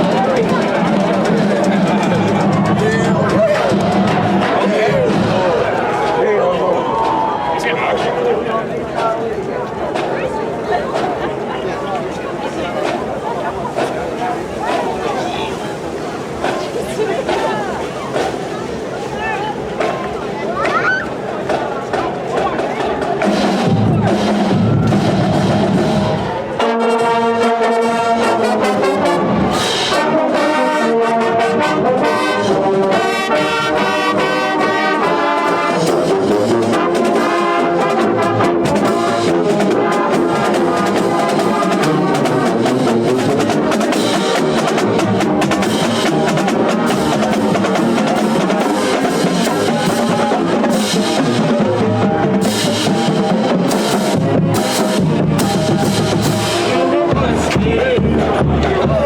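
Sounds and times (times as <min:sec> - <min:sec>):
drums: 0:00.0 - 0:59.0
marching band brass playing: 0:00.0 - 0:59.0.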